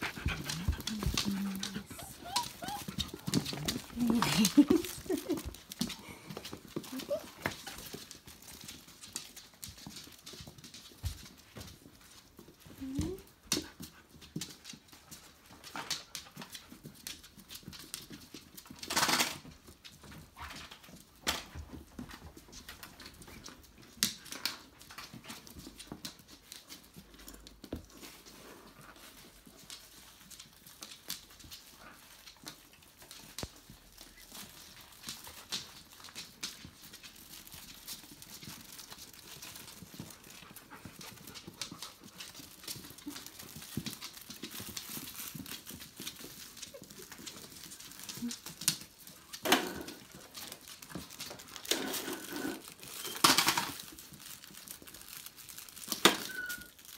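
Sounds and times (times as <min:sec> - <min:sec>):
puppy claws clicking on wooden floor: 0:00.0 - 0:56.9.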